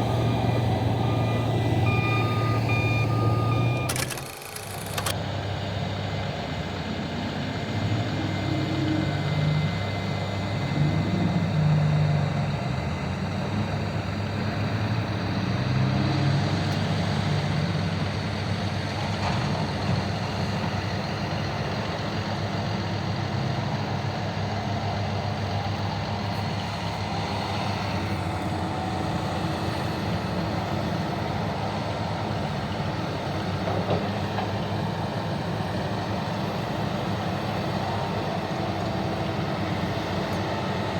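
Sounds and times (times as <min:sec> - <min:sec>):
heavy diesel engines running: 0:00.0 - 0:40.9.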